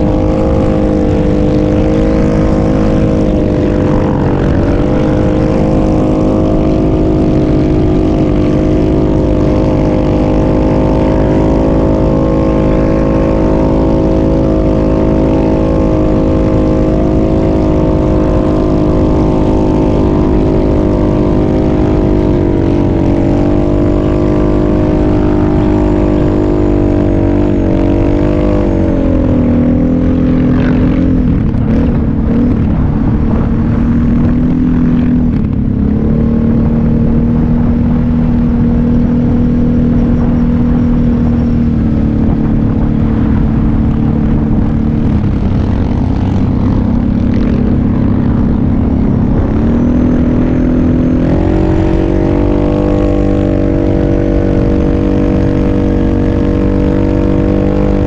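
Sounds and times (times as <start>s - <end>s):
atv engine running under load: 0.0s - 58.0s.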